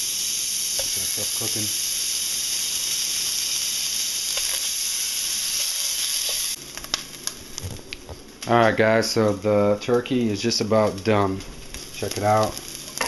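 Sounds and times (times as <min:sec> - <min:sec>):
meat sizzling in a hot pan: 0:00.0 - 0:07.6, 0:08.6 - 0:13.0.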